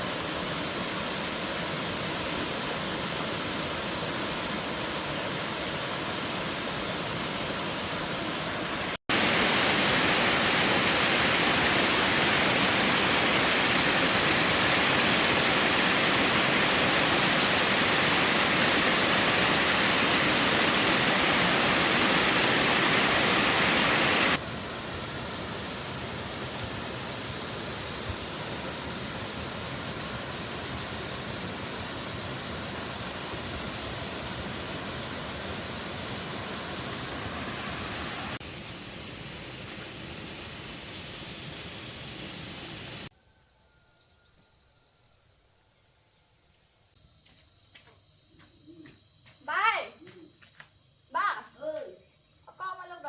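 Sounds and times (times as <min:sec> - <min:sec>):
rushing water: 0:00.0 - 0:43.1.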